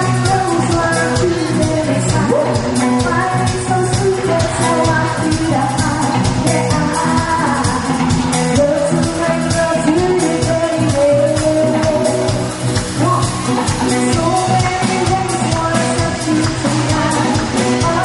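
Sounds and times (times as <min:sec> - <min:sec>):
band playing a song: 0:00.0 - 0:18.0
drums: 0:00.0 - 0:18.0
person singing: 0:00.0 - 0:18.0
steady bass: 0:00.0 - 0:18.0.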